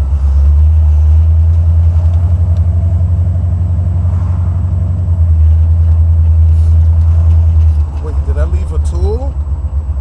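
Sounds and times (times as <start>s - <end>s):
car engine droning inside cabin: 0.0s - 10.0s.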